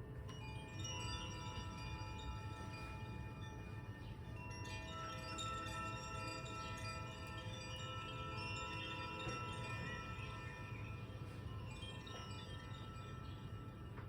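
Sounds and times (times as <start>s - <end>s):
chimes ringing: 0.3s - 14.0s.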